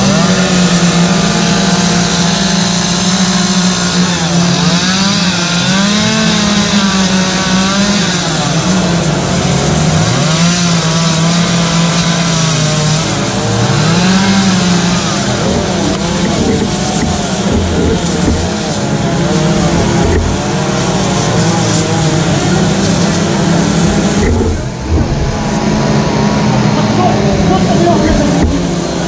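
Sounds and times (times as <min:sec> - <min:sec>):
chainsaws revving: 0:00.0 - 0:29.0.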